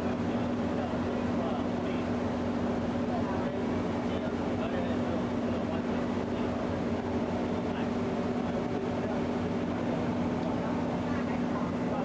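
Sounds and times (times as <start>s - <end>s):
boat engine humming: 0.0s - 12.0s
constant rushing noise: 0.0s - 12.0s.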